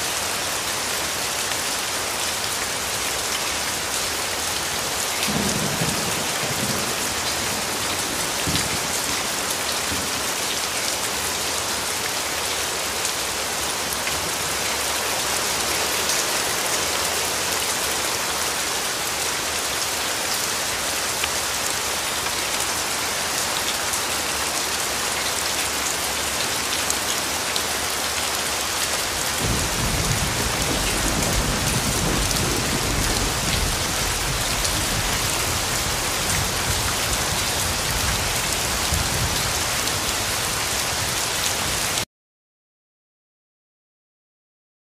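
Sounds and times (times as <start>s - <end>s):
heavy rain hiss: 0.0s - 42.0s.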